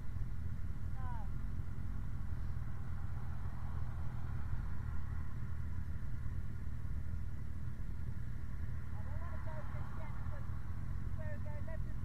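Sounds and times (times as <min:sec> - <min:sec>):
motorcycle engine rumble: 0:00.0 - 0:12.0
road noise: 0:00.0 - 0:12.0.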